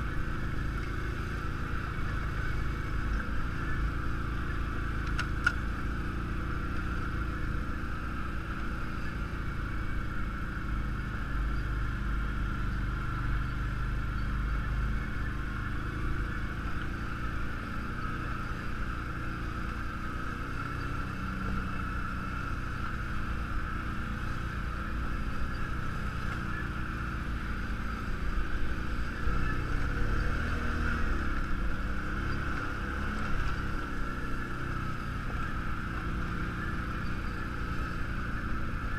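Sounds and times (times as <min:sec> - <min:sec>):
steady high whine: 0:00.0 - 0:38.9
vehicle engine low rumble: 0:00.0 - 0:38.9.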